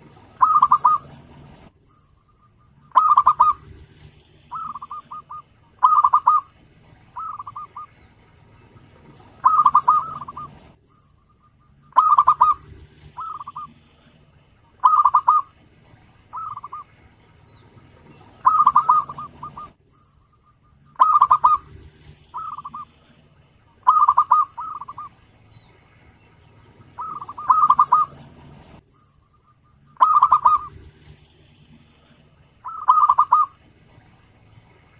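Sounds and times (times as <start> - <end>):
dove cooing: 0.0 - 17.0, 18.0 - 19.8, 20.4 - 23.2, 23.8 - 25.2, 26.8 - 28.8, 29.8 - 31.3, 32.0 - 34.1.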